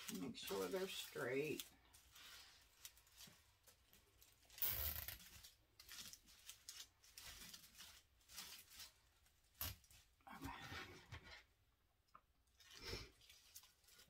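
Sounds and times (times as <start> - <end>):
twig wreath scraping: 0.0 - 10.2, 12.6 - 14.0
twigs rustling and crackling: 0.0 - 10.2, 12.4 - 14.0.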